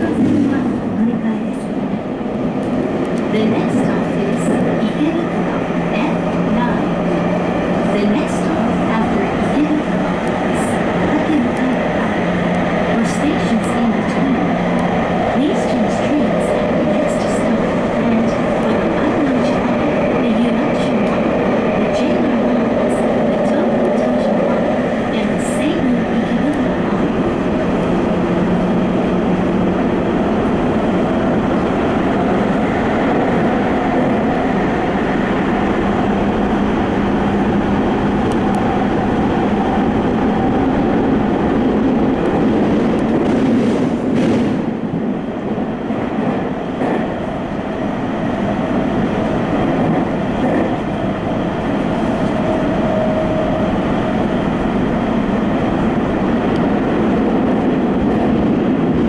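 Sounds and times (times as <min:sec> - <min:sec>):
subway train running in tunnel: 0:00.0 - 0:59.0.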